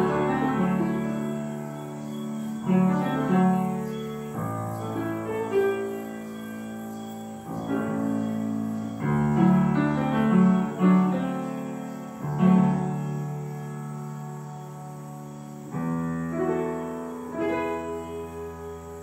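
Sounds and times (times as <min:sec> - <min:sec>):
piano slow chords: 0:00.0 - 0:19.0.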